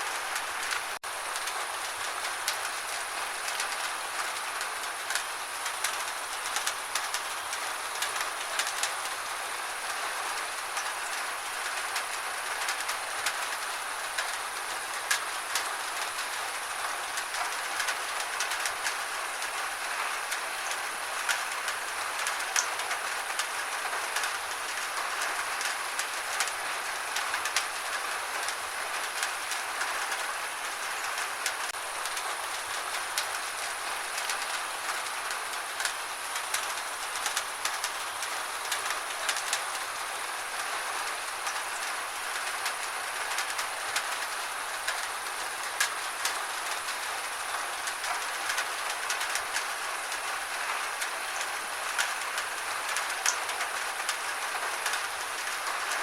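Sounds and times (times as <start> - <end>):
rain falling: 0.0 - 56.0
raindrops ticking on surface: 0.0 - 56.0.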